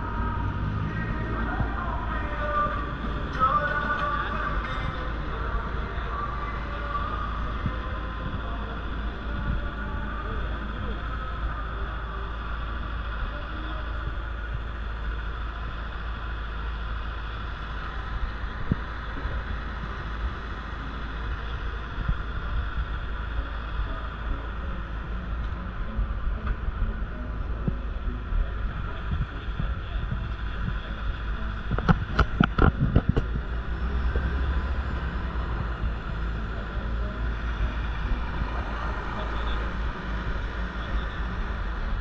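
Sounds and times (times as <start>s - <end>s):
traffic hum with low rumble: 0.0s - 42.0s.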